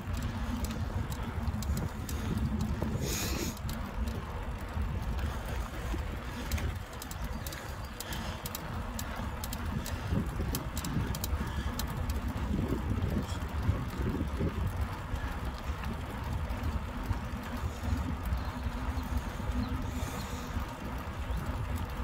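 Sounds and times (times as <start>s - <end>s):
bike clicks and rattles: 0.0s - 22.0s
tyre noise on tarmac: 0.0s - 22.0s
wind rumble on microphone: 0.0s - 22.0s.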